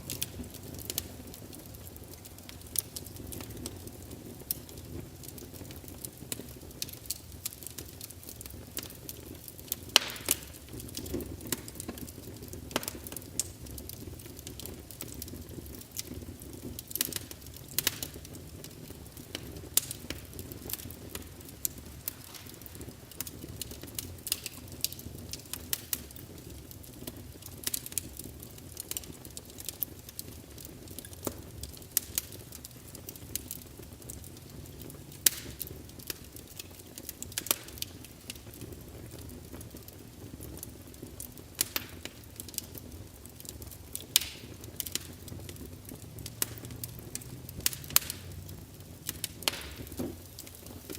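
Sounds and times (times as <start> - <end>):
logs crackling and popping: 0.0 - 50.9
low rumble of flames: 0.0 - 50.9.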